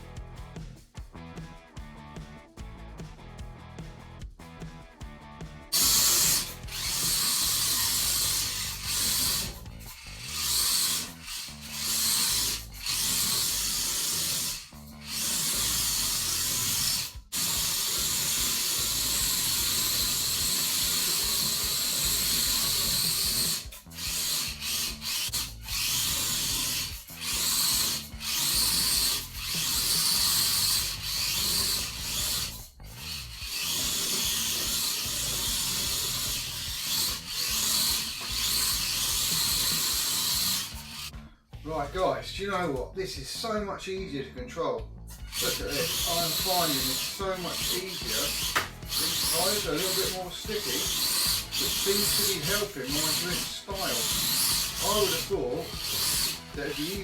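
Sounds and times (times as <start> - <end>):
electric motor whine: 5.7 - 41.1, 45.2 - 57.0.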